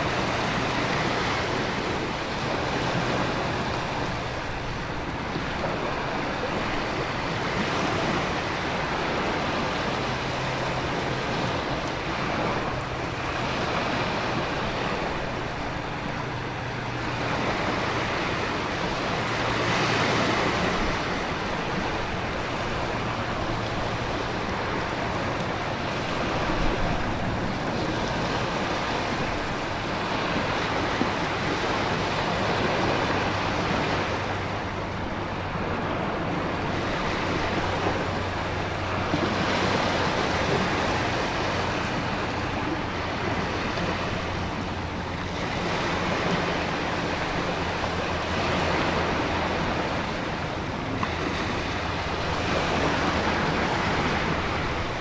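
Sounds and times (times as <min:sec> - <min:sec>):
ocean surf: 0:00.0 - 0:55.0
wind: 0:00.0 - 0:55.0.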